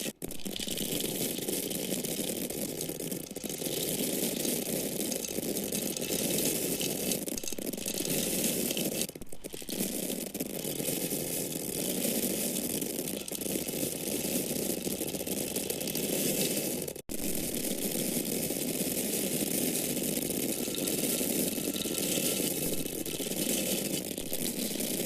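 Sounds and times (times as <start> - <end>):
corn kernels pouring: 0.0 - 25.0.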